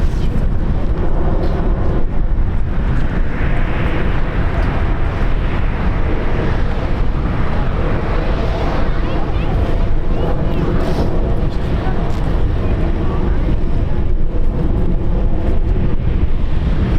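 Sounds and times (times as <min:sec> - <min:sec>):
jet engine rumble: 0:00.0 - 0:16.9.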